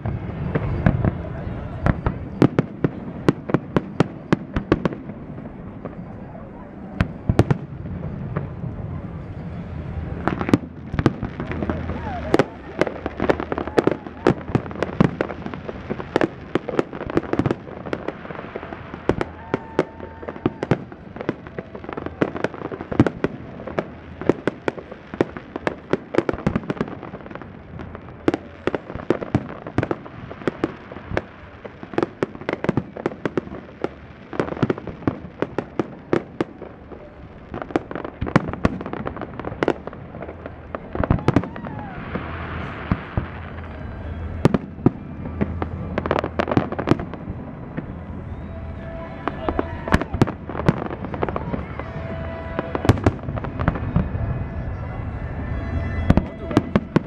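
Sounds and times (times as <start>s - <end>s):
fireworks bangs and cracks: 0.0s - 57.0s.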